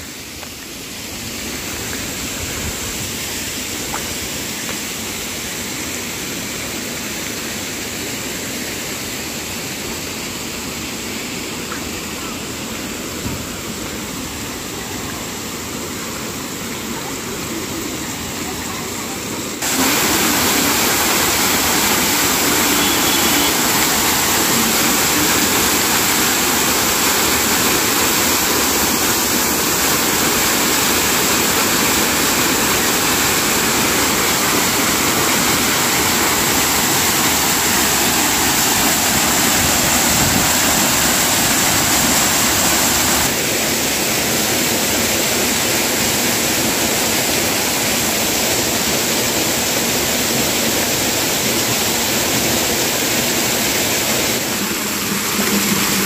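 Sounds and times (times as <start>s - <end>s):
waterfall rushing and splashing: 0.0s - 56.0s.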